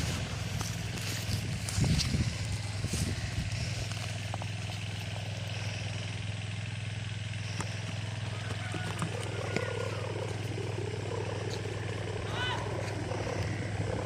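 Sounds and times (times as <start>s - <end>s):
kite hummer droning: 0.0s - 14.0s.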